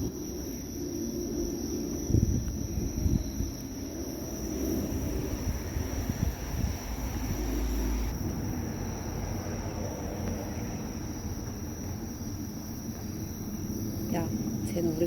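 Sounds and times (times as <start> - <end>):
high-pitched insect chirring: 0.0 - 15.0
wind rumbling on microphone: 0.0 - 15.0.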